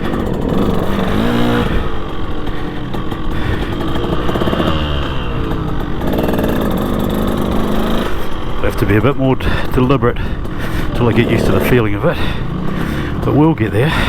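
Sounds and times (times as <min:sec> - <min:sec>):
motocross engine revving: 0:00.0 - 0:14.0.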